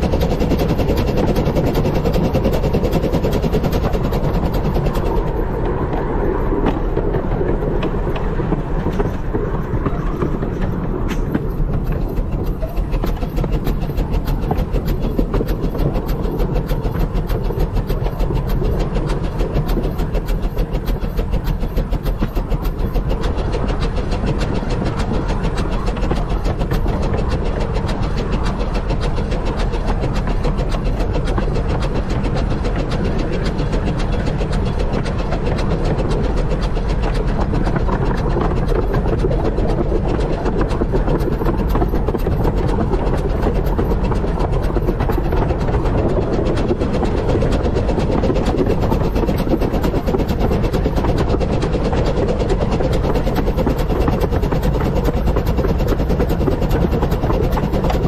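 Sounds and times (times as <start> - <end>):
steam locomotive running: 0.0 - 58.0
wheels clattering over rails: 0.0 - 58.0.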